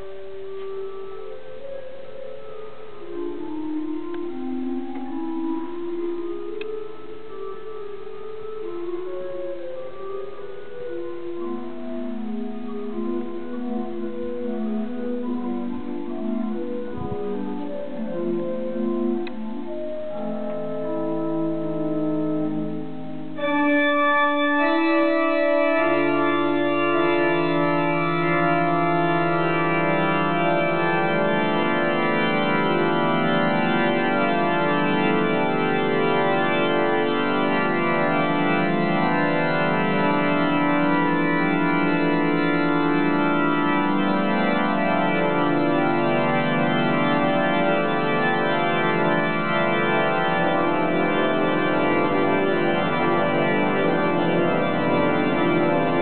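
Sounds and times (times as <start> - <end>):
organ sustained chords: 0.0 - 56.0.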